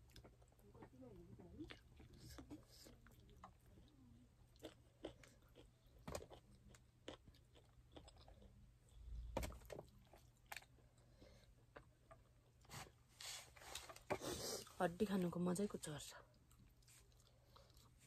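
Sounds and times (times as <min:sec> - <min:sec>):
person chewing food: 0:00.0 - 0:13.0, 0:16.3 - 0:18.0.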